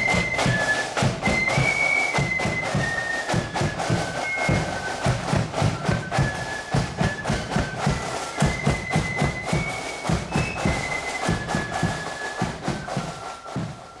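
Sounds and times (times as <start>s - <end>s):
marching drumbeat: 0.0s - 14.0s
wind melody: 0.0s - 14.0s.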